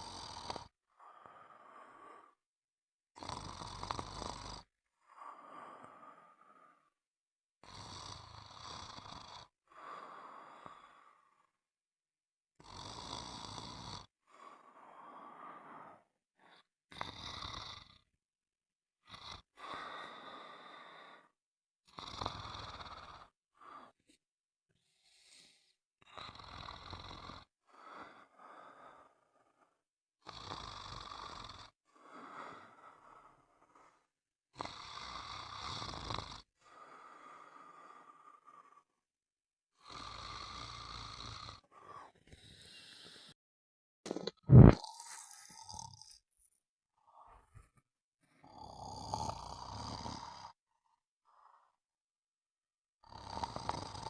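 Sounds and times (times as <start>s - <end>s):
snoring: 0.0s - 2.4s, 3.2s - 6.9s, 7.6s - 11.6s, 12.6s - 18.1s, 19.0s - 24.0s, 24.8s - 39.0s, 39.7s - 43.4s, 44.1s - 46.2s, 47.0s - 51.8s, 53.0s - 54.0s.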